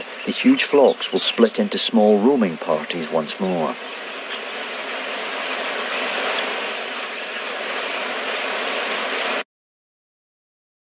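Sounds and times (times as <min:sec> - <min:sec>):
background hiss: 0:00.0 - 0:09.4
insect chirping: 0:00.0 - 0:09.4.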